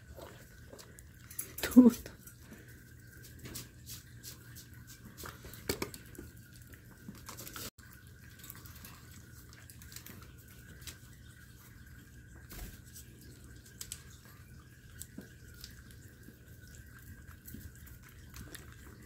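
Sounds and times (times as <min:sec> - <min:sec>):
dog licking and eating: 0:00.0 - 0:12.1, 0:12.8 - 0:19.0.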